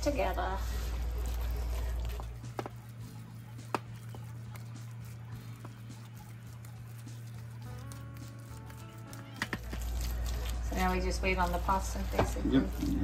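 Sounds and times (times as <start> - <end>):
soft squishing of wet filling: 0.0 - 13.0.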